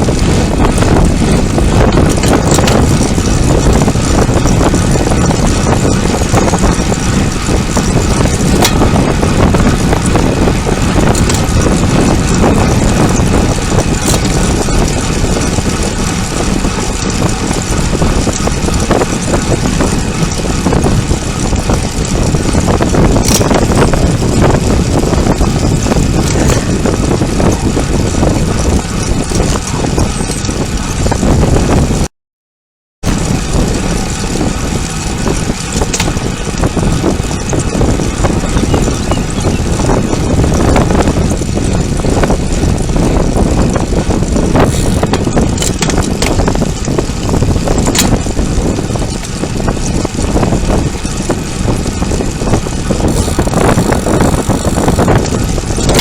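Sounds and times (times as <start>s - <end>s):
wind rush over microphone: 0.0s - 32.1s, 33.0s - 56.0s.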